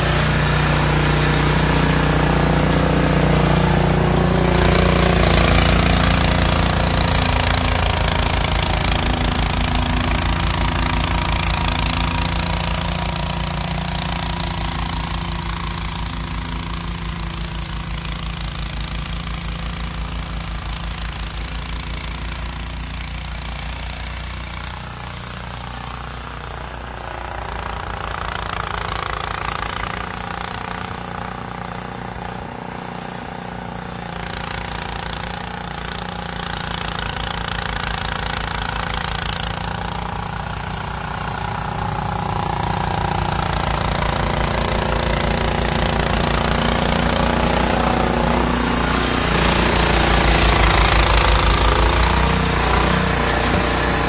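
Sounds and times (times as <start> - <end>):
snowblower engine running: 0.0 - 54.0.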